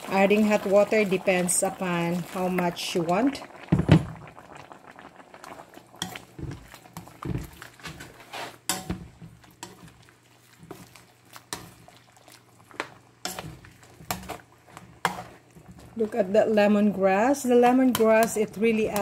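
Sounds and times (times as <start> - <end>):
ladle stirring in a pot: 0.0 - 19.0.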